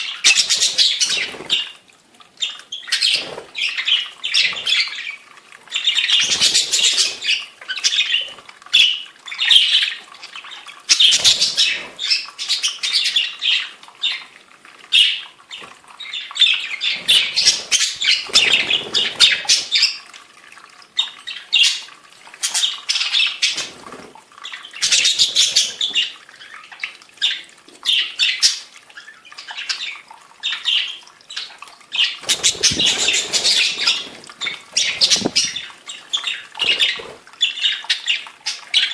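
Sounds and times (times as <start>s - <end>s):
budgerigars chattering and squawking: 0.0s - 1.8s, 2.4s - 14.2s, 16.0s - 20.0s, 24.4s - 28.6s, 29.4s - 38.9s.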